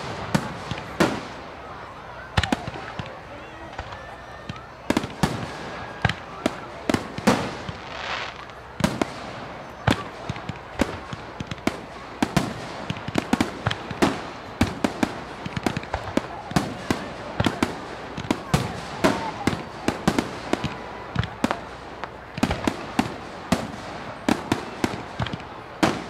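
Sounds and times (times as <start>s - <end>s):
fireworks bangs and pops: 0.0s - 26.0s
fireworks hissing: 4.9s - 26.0s.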